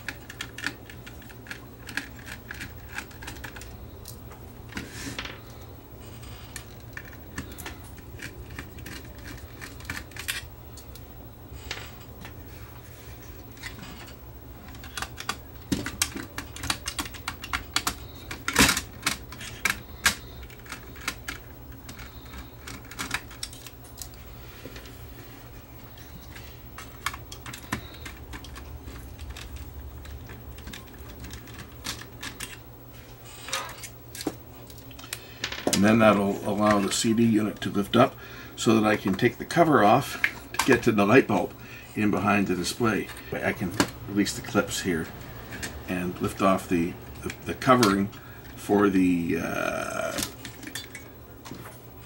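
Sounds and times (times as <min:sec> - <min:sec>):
parts clattering: 0:00.0 - 0:52.0.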